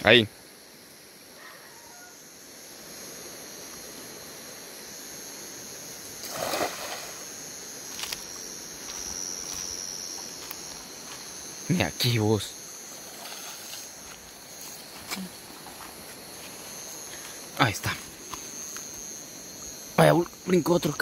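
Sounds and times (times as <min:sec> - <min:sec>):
night insects chorus: 0:00.0 - 0:21.0.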